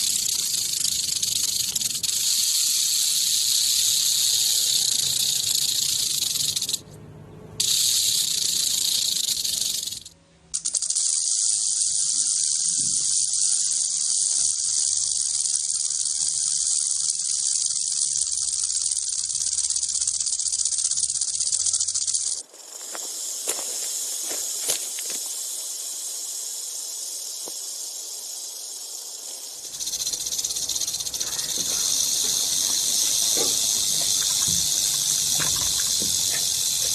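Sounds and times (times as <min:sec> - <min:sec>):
rattlesnake tail rattling: 0:00.0 - 0:06.8, 0:07.6 - 0:36.9.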